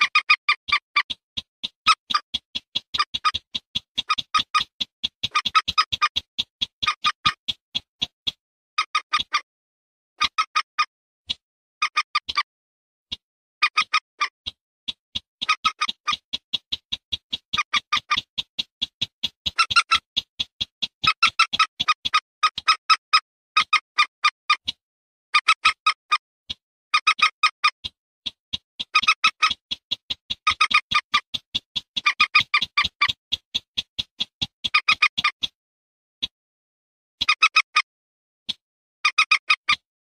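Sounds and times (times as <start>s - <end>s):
bird clicking calls: 0.0s - 9.5s, 10.2s - 12.5s, 13.1s - 24.8s, 25.4s - 35.6s, 37.2s - 37.9s, 38.5s - 39.9s.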